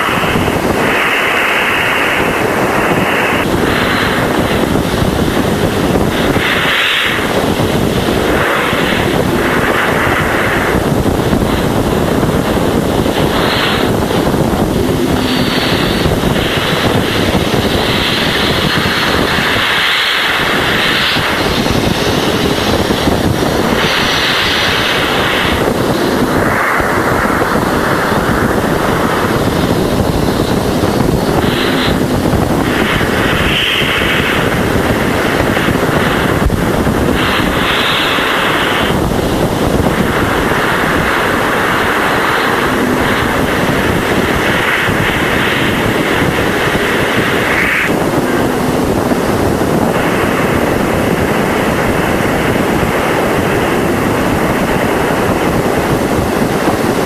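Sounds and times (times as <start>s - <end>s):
loud steady rushing hiss: 0.0s - 57.0s
thin steady tone: 0.0s - 57.0s.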